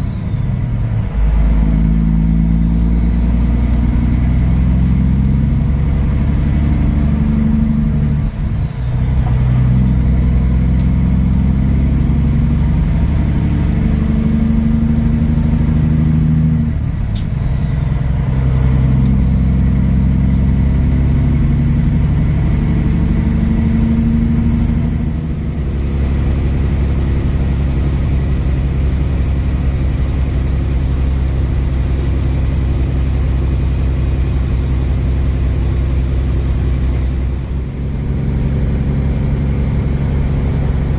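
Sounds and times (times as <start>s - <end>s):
truck diesel engine accelerating: 0.0s - 40.9s
turbo whistle: 2.8s - 17.8s, 19.3s - 40.9s.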